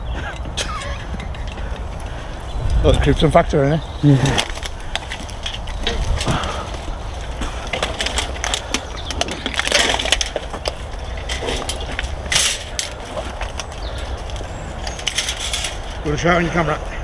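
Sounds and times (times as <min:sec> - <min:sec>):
twigs crackling against wire frame: 0:00.0 - 0:17.0.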